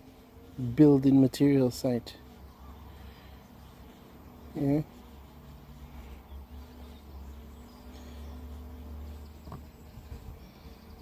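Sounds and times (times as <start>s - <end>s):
drone propellers humming: 0.0s - 11.0s.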